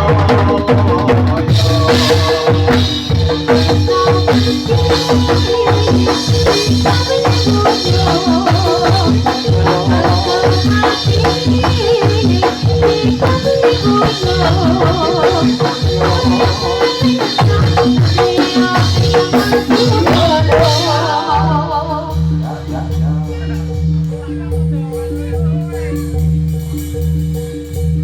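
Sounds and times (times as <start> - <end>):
drums and struck percussion: 0.0 - 28.0
wavering melody line: 0.0 - 28.0.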